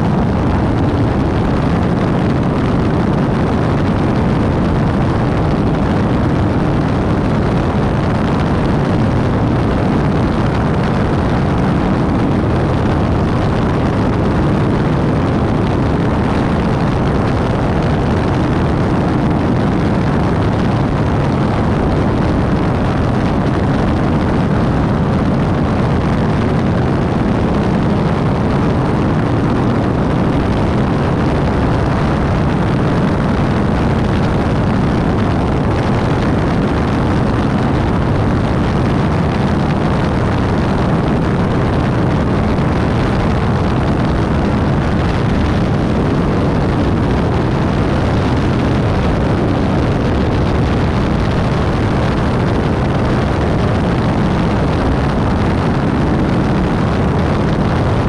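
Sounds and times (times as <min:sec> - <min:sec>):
airplane engine and propeller: 0:00.0 - 0:58.0
rushing airflow: 0:00.0 - 0:58.0.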